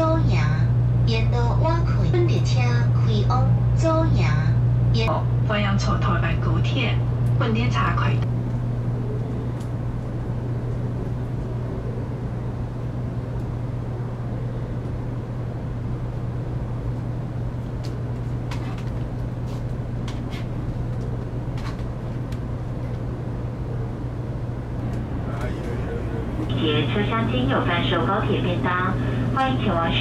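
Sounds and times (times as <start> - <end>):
train air conditioning hum: 0.0 - 30.0.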